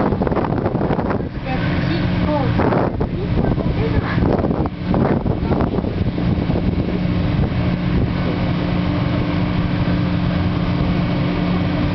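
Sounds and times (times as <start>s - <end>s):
boat engine drone: 0.0s - 11.9s.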